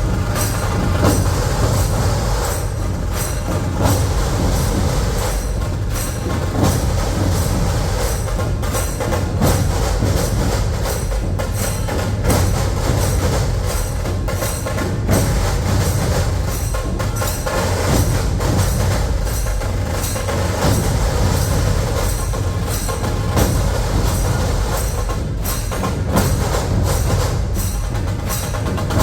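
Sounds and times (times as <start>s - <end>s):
barrel drums beating: 0.0s - 29.0s
sharp rapid drum strokes: 0.0s - 29.0s.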